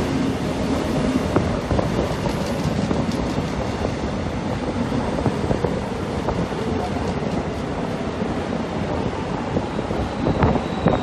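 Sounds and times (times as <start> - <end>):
train wheels rumbling on rail: 0.0 - 11.0
wind on microphone: 0.0 - 11.0.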